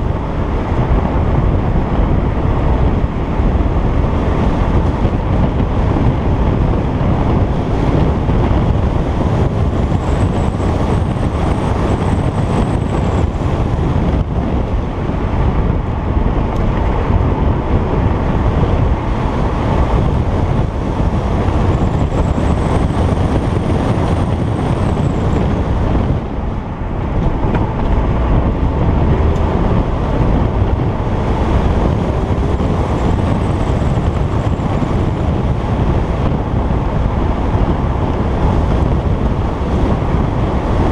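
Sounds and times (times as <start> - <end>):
car engine running: 0.0 - 40.9
wind noise on microphone: 0.0 - 40.9.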